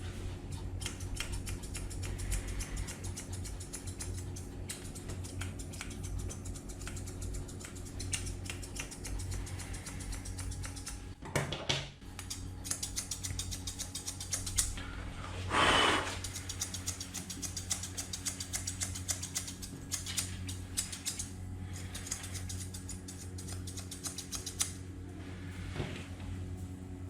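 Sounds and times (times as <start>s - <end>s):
steady low hum: 0.0s - 11.2s, 12.0s - 27.0s
scissors snipping fur: 0.5s - 11.2s, 12.0s - 14.8s, 16.2s - 24.9s.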